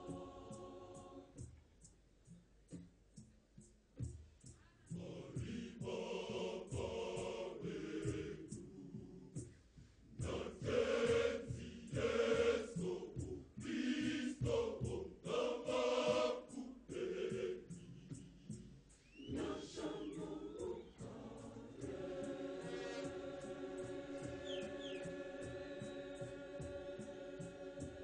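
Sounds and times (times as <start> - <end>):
mixed choir singing a hymn: 0.0 - 1.5, 4.9 - 9.5, 10.2 - 28.0
steady low beat: 3.6 - 28.0.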